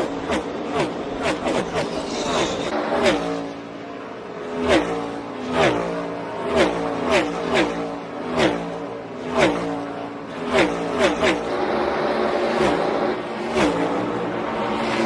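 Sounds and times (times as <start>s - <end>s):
race cars passing by: 0.0s - 15.0s.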